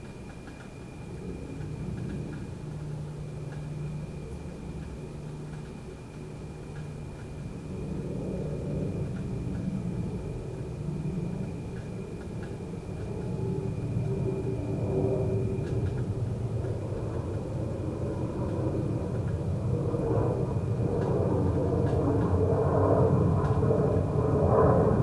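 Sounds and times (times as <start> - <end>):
cricket trill: 0.0 - 24.0
distant road traffic rumble: 0.0 - 24.2.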